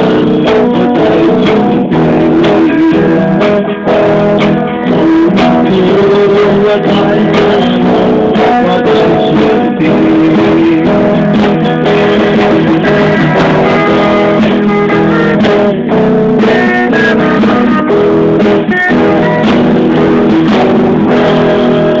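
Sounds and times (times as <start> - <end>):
live band guitar music: 0.0 - 22.0.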